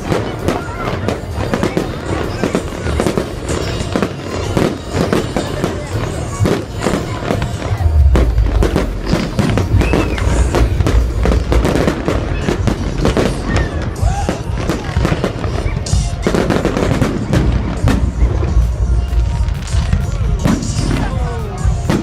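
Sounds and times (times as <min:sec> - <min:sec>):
fireworks booming: 0:00.0 - 0:22.0
fireworks cracking and crackling: 0:00.0 - 0:22.0.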